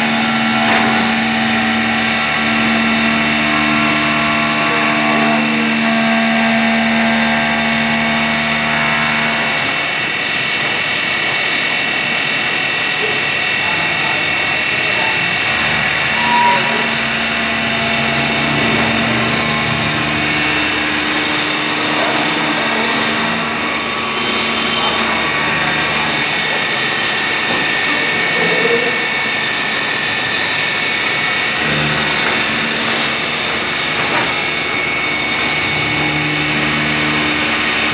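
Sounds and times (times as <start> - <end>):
milling machine whine: 0.0 - 37.9.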